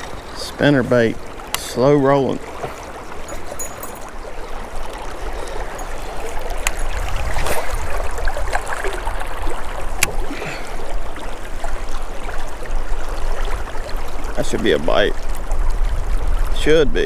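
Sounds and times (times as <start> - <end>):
river current rushing: 0.0 - 16.4.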